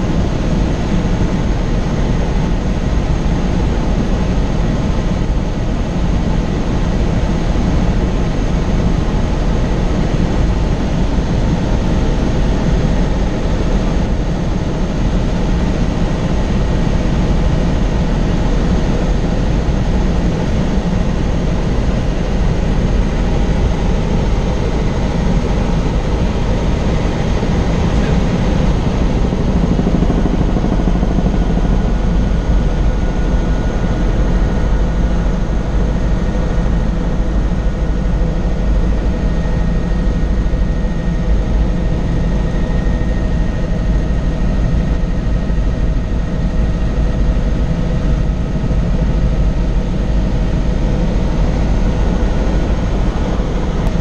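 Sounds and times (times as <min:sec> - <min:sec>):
helicopter rotor and engine noise: 0:00.0 - 0:54.0.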